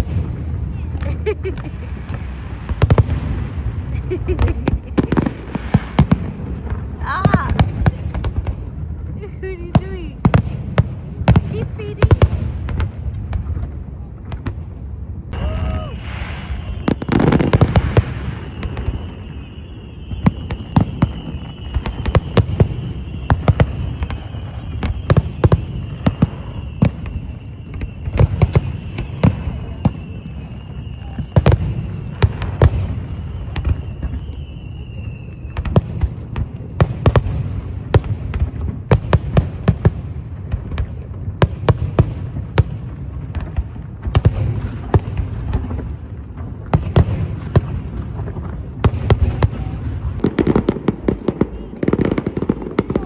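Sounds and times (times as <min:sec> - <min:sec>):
firework bursts and crackles: 0:00.0 - 0:53.0.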